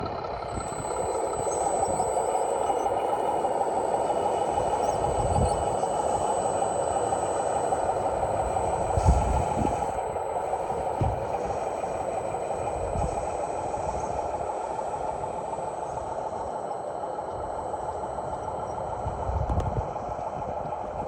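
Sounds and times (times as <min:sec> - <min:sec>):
toy truck motor whine: 0:00.2 - 0:21.0.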